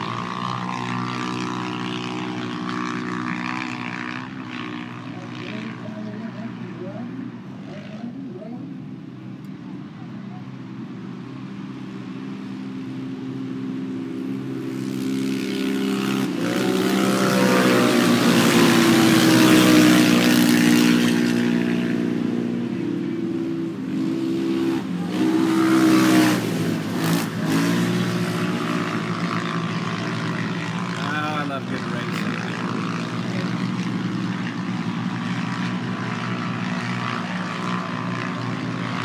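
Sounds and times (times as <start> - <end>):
utility vehicle engines racing: 0.0 - 39.0.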